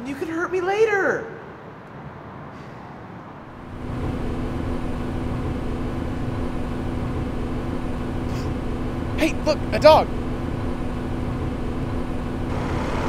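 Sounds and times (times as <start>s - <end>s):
bus engine rumbling: 1.5s - 13.0s.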